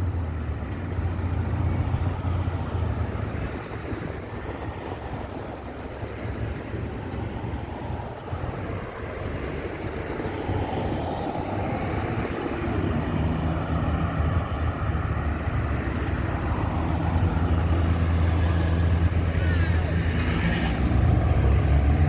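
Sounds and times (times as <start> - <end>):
vehicles driving past: 0.0 - 22.0.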